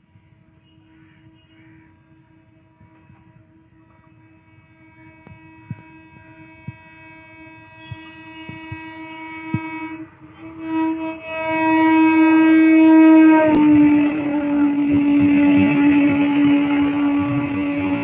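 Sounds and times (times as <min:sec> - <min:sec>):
rush of passing train: 0:00.0 - 0:18.0
train horn long note: 0:00.6 - 0:18.0.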